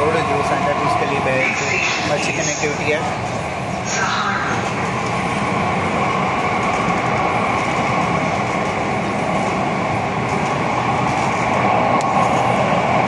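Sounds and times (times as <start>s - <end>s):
underground train rumbling: 0.0s - 13.0s.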